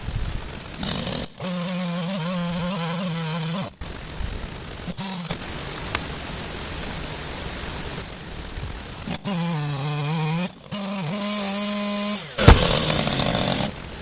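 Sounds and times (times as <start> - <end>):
background hiss: 0.0 - 14.0
power tool motor running: 0.0 - 14.0.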